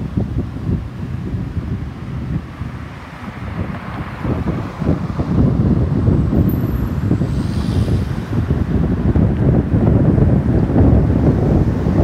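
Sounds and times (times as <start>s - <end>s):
distant jet engine rumble: 0.0s - 12.0s
wind buffeting microphone: 0.0s - 12.0s.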